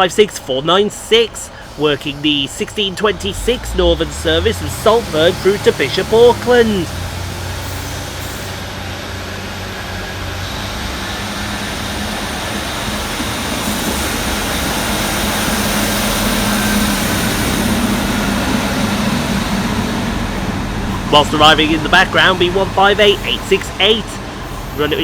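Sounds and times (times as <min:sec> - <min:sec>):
train diesel engines droning: 0:00.0 - 0:25.0.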